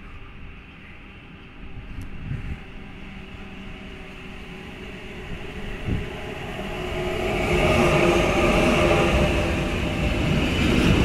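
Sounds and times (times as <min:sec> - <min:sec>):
freight train rumble: 0:00.0 - 0:11.0
steady hum: 0:01.6 - 0:11.0.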